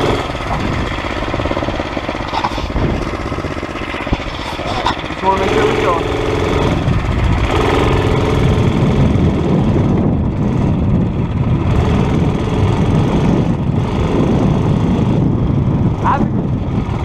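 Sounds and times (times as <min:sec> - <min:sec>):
mini bike engine running: 0:00.0 - 0:17.0.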